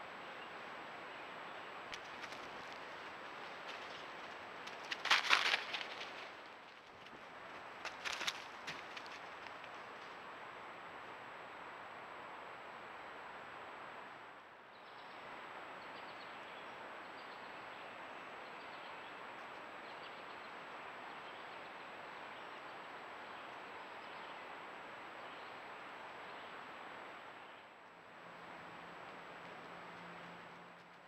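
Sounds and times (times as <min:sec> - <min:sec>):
steady low hiss: 0:00.0 - 0:31.0.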